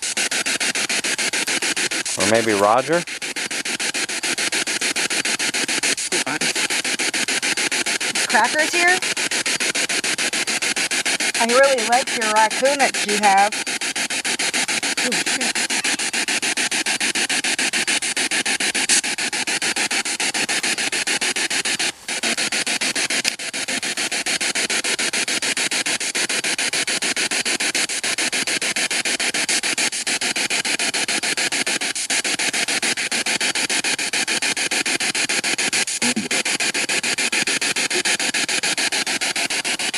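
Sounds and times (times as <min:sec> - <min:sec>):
choppy radio static: 0:00.0 - 0:39.9.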